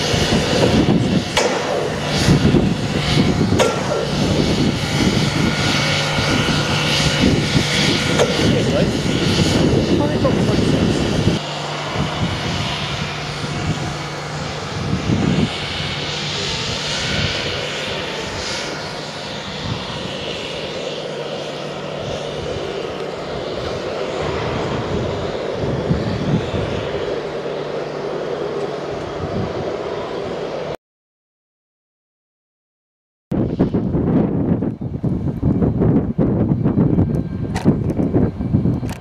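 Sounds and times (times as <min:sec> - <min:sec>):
diesel locomotive engine drone: 0:00.0 - 0:30.8, 0:33.4 - 0:39.0.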